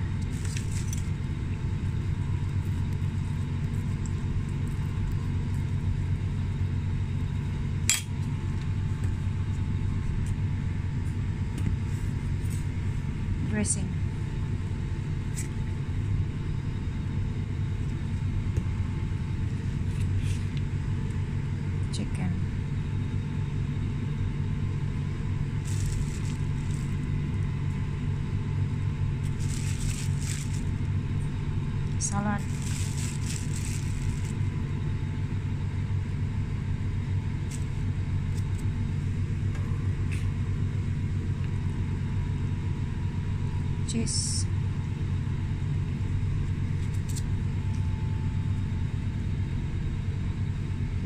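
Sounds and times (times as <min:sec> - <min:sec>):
low background rumble: 0:00.0 - 0:51.0.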